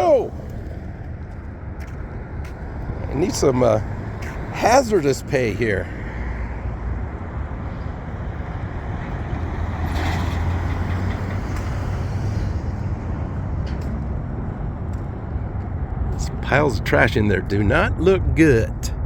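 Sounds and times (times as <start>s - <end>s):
vehicle passing: 0.0s - 18.9s
traffic engine rumble: 0.0s - 19.0s.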